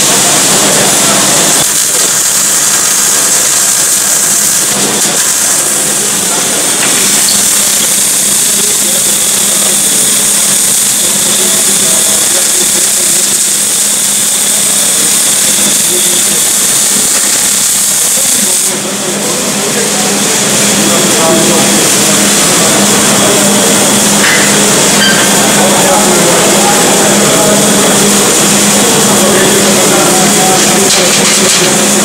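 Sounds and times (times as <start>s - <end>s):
welding arc crackling and sizzling: 0.0s - 32.0s.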